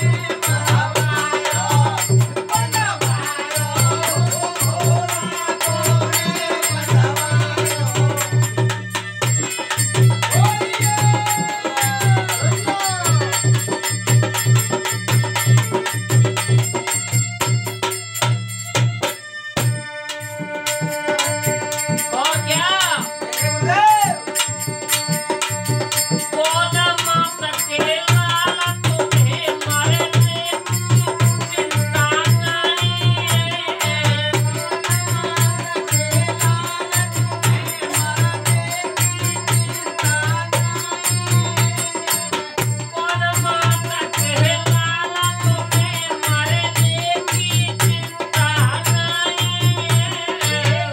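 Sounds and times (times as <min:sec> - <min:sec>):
man singing: 0:00.0 - 0:18.3, 0:19.0 - 0:50.9
dholak drum beat: 0:00.0 - 0:50.9
harmonium: 0:00.0 - 0:50.9
jingling hand percussion: 0:00.0 - 0:50.9.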